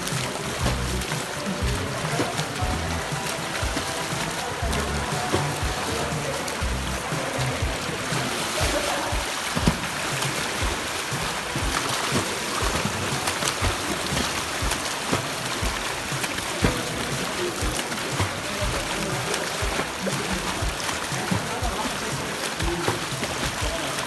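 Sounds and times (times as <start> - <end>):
water sloshing and splashing: 0.0 - 24.0.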